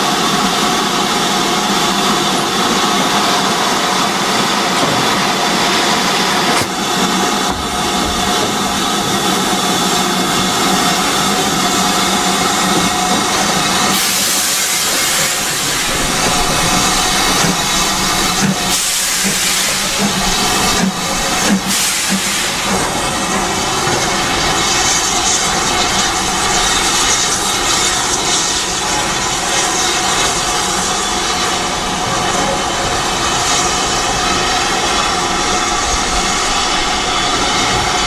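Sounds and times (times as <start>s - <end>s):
steam hissing: 0.0s - 38.0s.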